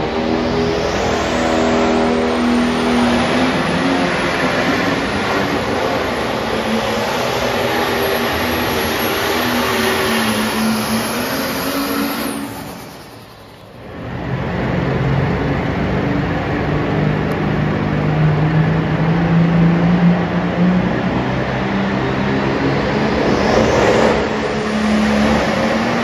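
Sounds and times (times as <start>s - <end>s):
high engine whine: 0.0s - 26.0s
tractor engine roaring: 0.0s - 26.0s.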